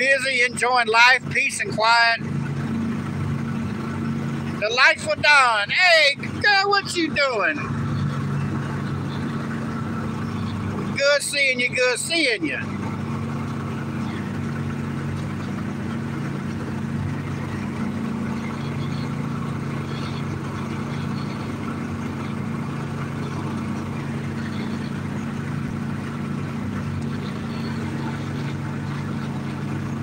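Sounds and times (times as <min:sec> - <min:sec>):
small boat engine droning: 0:00.0 - 0:30.0.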